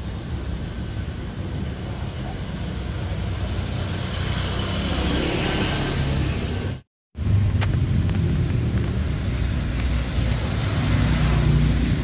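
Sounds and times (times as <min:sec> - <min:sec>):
street background rumble: 0:00.0 - 0:12.0.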